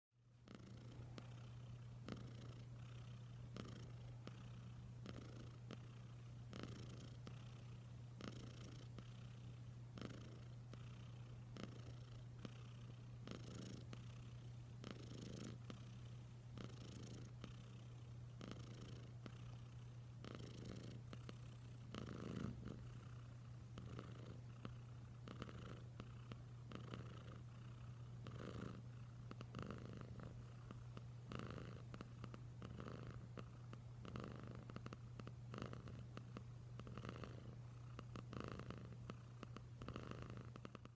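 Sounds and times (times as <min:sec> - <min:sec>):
cat purring: 0:00.4 - 0:40.9.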